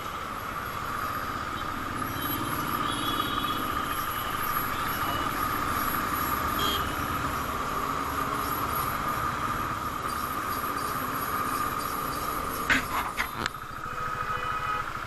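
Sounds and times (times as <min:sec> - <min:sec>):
motorcycle engine drone: 0:00.0 - 0:15.0
surrounding traffic: 0:00.0 - 0:15.0
wind and road noise: 0:00.0 - 0:15.0.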